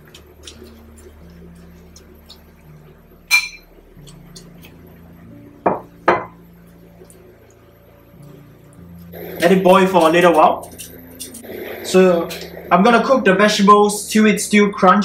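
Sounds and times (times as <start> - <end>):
hob low hum: 0.0 - 14.8.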